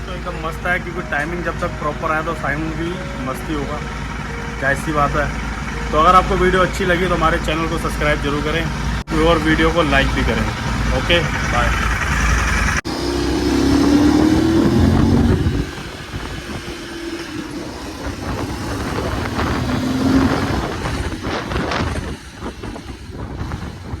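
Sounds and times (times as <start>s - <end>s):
motor vehicle engine: 0.0s - 24.0s.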